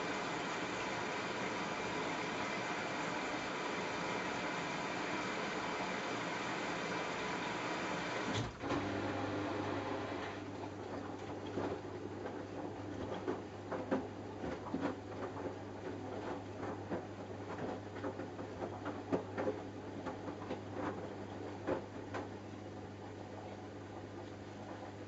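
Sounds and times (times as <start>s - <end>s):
laundry tumbling and splashing: 0.0s - 22.4s
washing machine motor hum: 0.0s - 25.0s.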